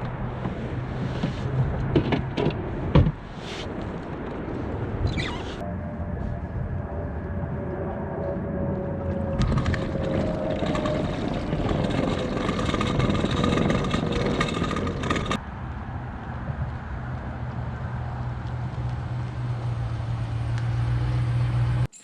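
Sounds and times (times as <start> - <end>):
low hum: 0.0 - 22.0
vehicle engine and road rumble: 0.0 - 22.0.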